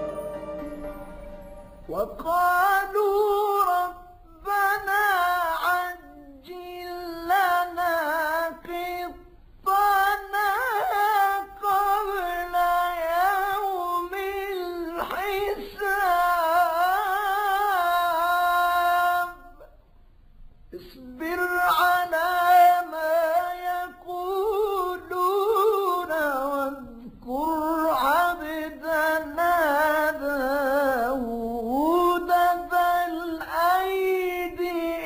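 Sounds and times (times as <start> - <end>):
man chanting unaccompanied: 1.9 - 19.8, 20.8 - 35.0.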